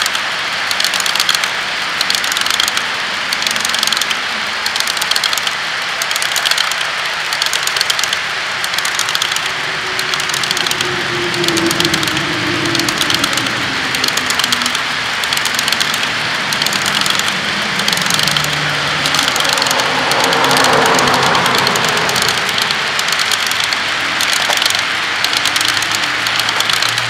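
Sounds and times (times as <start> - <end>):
model train cars rolling on track: 0.0 - 27.0.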